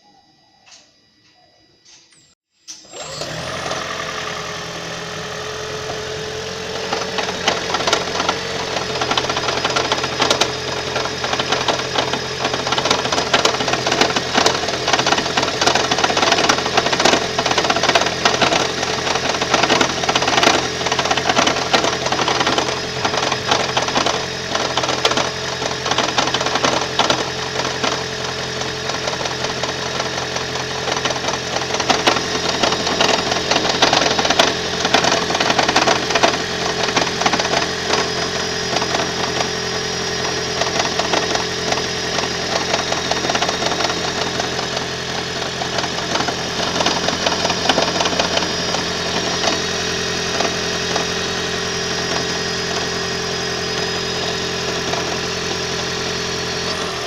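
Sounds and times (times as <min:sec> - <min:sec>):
car engine humming: 0:02.9 - 0:57.0
engine knocking rattle: 0:03.7 - 0:57.0.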